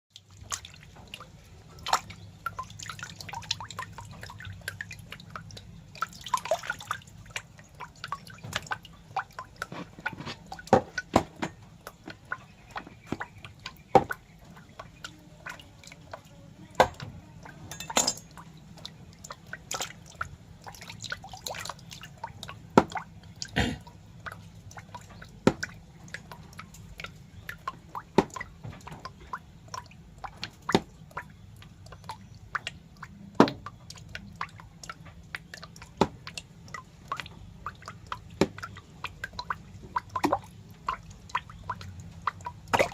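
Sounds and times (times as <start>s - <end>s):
wet drips and clicks: 0.1s - 42.9s.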